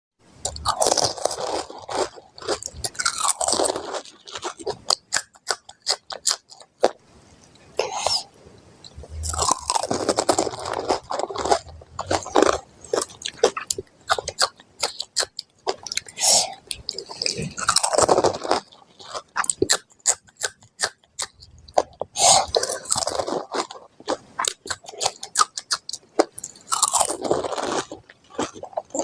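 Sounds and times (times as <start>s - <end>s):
wet chewing: 0.4s - 8.2s, 8.8s - 29.0s
crisp shells crunching: 0.5s - 7.0s, 9.2s - 16.2s, 16.8s - 19.9s, 21.8s - 29.0s.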